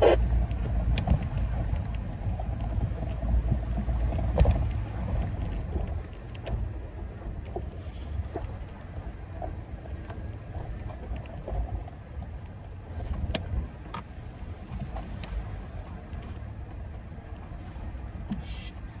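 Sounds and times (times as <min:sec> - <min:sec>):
engine and tyre rumble: 0:00.0 - 0:19.0.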